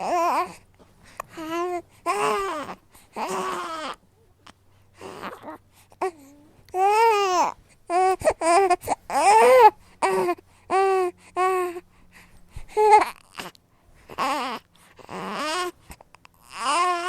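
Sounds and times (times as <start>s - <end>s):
newborn baby calling: 1.3s - 11.8s, 12.8s - 17.0s.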